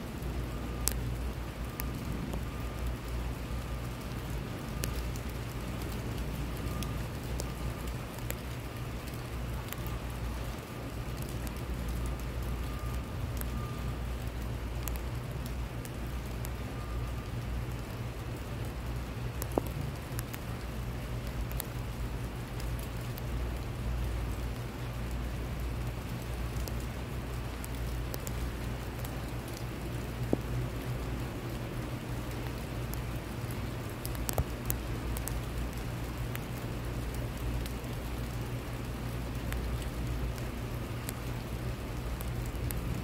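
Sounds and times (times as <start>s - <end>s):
rain on concrete pavement: 0.0s - 43.0s.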